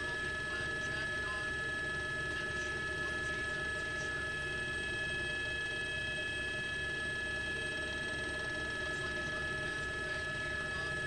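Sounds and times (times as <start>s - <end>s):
helicopter rotor beat: 0.0s - 11.0s
helicopter turbine whine: 0.0s - 11.0s.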